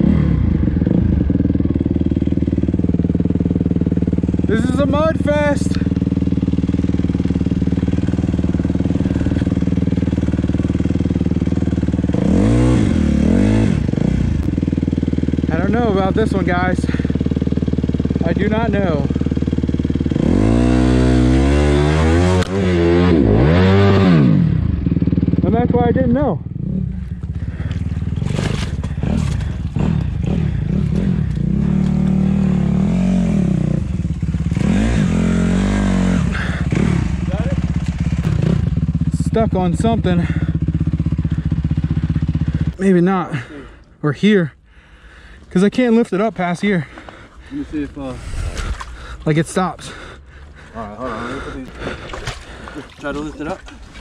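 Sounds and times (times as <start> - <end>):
dirt bike engine revving: 0.0 - 43.5
dirt bike engine idling: 0.0 - 54.0.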